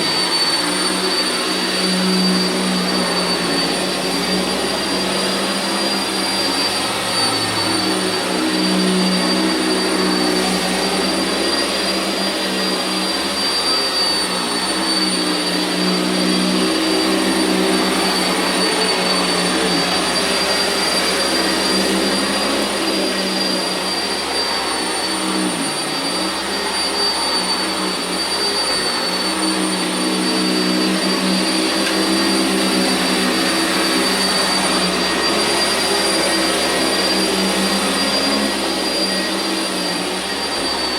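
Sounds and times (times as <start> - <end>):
upright vacuum running over carpet: 0.0 - 40.9.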